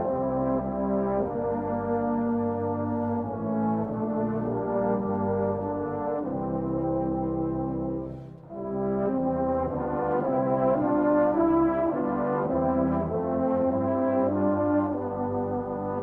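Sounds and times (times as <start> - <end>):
brass band playing slow chords: 0.0 - 16.0.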